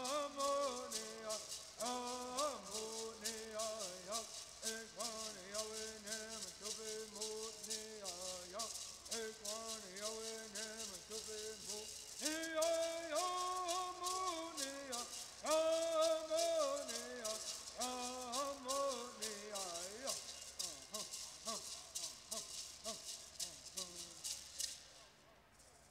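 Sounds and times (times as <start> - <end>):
rattles shaken in a beat: 0.0 - 25.9.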